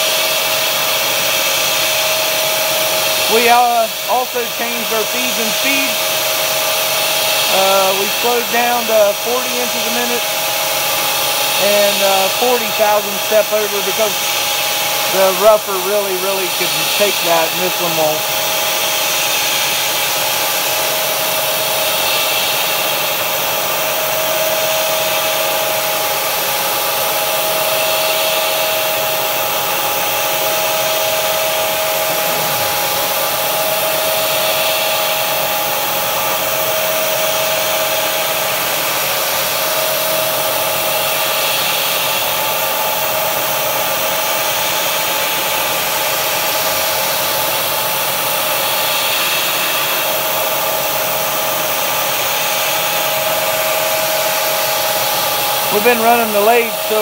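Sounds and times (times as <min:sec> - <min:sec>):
milling machine cutting whine: 0:00.0 - 0:57.0
mist coolant sprayer hissing: 0:00.0 - 0:57.0.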